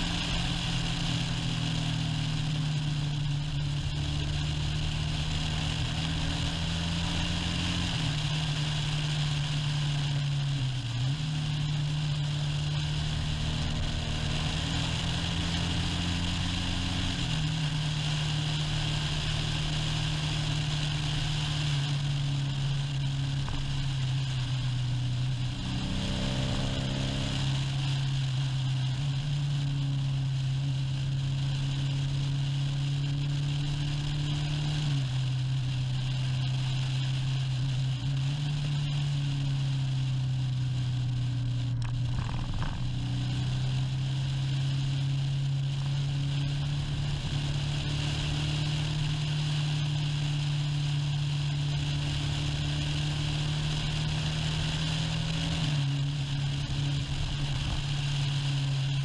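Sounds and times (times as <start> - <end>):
motorcycle engine running: 0.0 - 59.0
steady rushing noise: 0.0 - 59.0.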